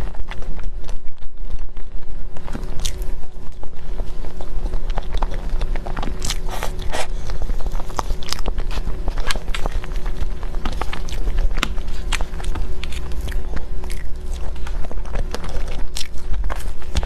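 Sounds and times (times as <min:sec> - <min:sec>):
steady low hum: 0:00.0 - 0:17.0
wet chewing and mouth smacks: 0:00.0 - 0:17.0.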